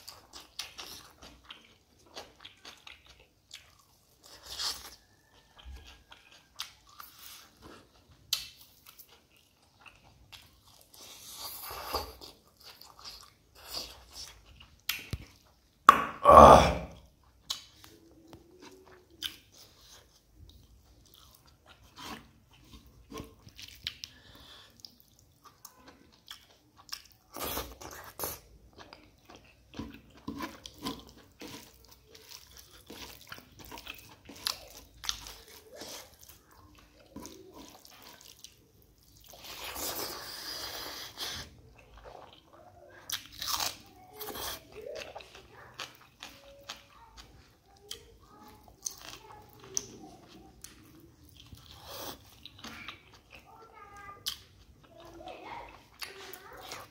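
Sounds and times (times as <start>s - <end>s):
chewing and crunching: 0.0s - 15.9s, 17.0s - 56.9s.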